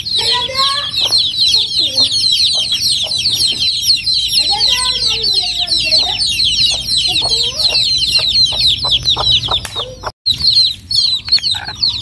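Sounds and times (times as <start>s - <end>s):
baby chicks peeping: 0.0s - 12.0s
hen clucking: 0.0s - 12.0s.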